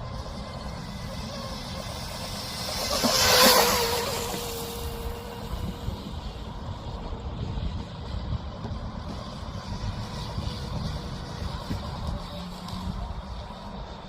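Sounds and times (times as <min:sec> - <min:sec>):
toy boat motor whine: 0:00.0 - 0:14.0.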